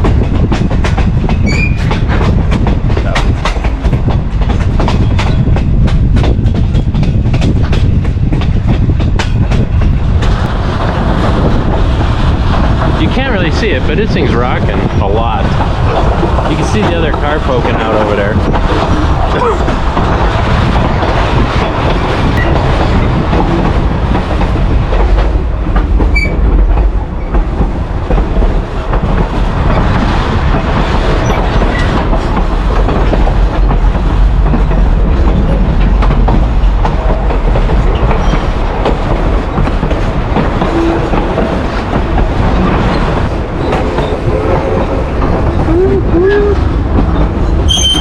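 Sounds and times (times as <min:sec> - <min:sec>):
train wheels clattering over rail joints: 0:00.0 - 0:48.0.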